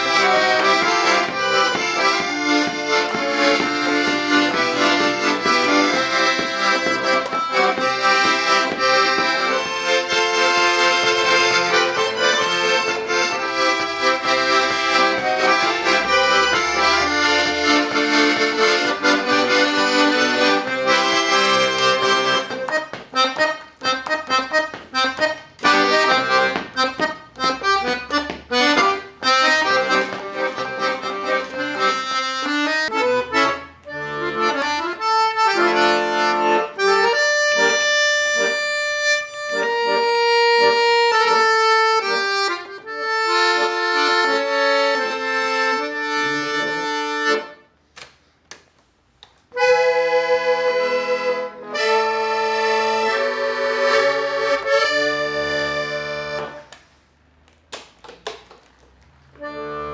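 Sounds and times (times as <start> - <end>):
accordion playing: 0.0 - 48.5, 49.5 - 57.4, 59.2 - 59.9.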